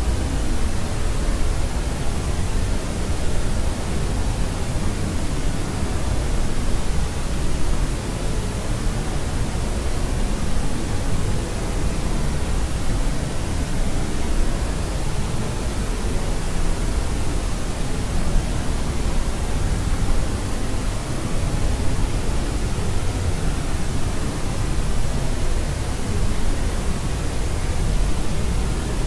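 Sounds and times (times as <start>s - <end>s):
white noise with low rumble: 0.0s - 29.0s.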